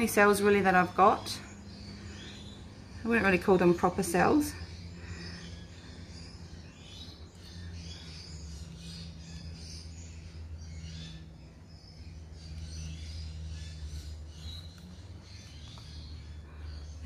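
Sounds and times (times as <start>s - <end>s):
faint birds chirping: 0.0s - 17.0s
steady low hum: 0.0s - 17.0s.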